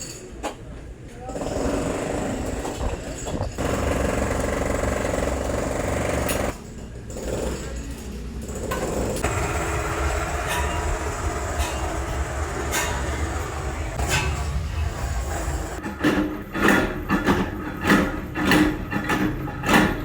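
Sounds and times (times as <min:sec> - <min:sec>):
workshop machinery running: 0:01.2 - 0:20.0.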